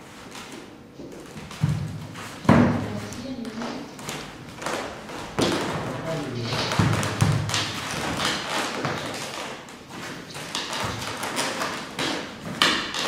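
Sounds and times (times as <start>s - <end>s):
rustling: 0.0s - 13.0s
footsteps on wooden floorboards: 1.0s - 12.7s.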